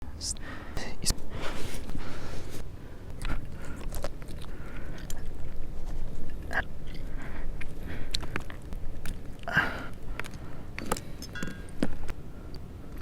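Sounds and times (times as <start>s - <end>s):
person chewing food: 1.4s - 13.0s.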